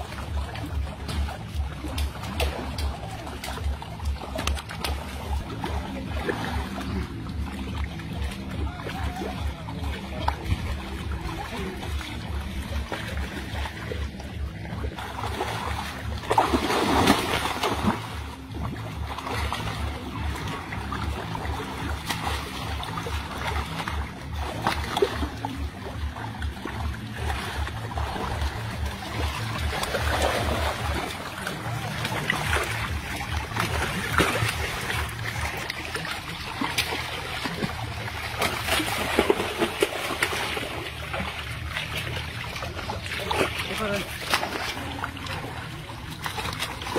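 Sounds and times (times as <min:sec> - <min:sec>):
low rumble: 0:00.0 - 0:46.9
water splashing and sloshing: 0:00.0 - 0:46.9.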